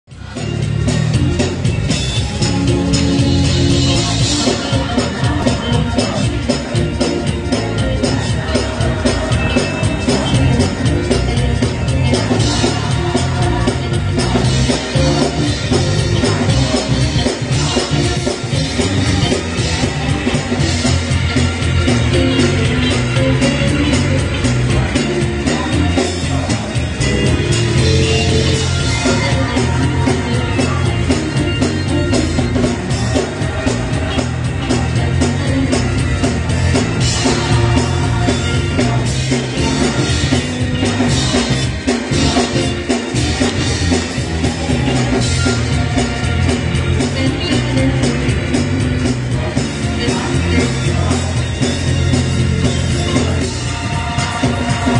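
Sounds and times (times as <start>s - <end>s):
bass: 0.0s - 54.9s
keyboard: 0.0s - 54.9s
drum kit beat: 0.1s - 54.9s
gospel choir singing: 2.2s - 54.9s.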